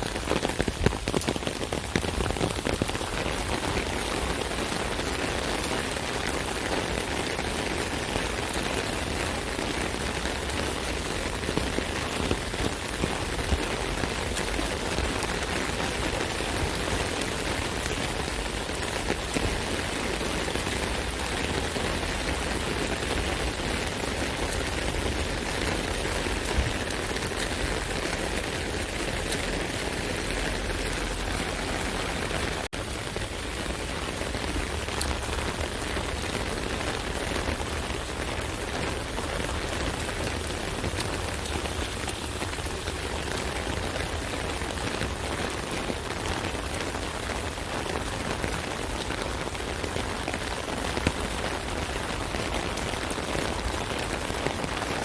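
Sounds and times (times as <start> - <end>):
rain pattering on umbrella: 0.0 - 55.0.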